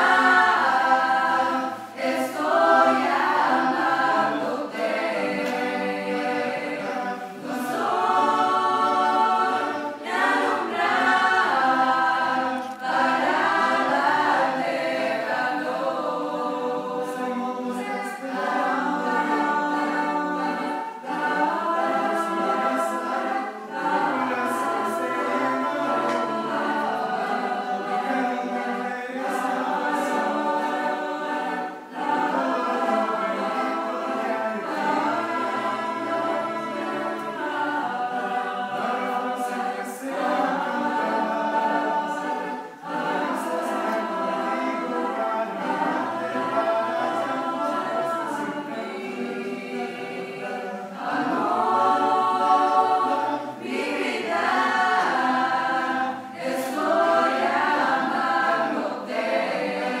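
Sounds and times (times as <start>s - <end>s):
youth choir singing unaccompanied: 0.0s - 60.0s.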